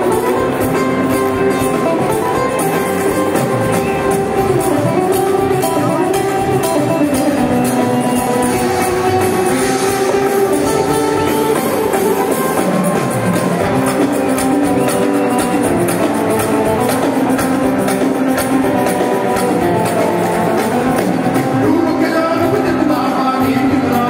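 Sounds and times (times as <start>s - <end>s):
rock band playing live: 0.0s - 24.0s.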